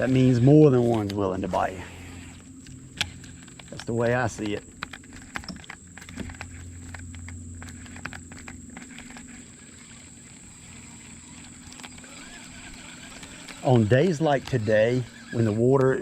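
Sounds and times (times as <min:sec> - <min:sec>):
small boat motor hum: 0:00.0 - 0:16.0.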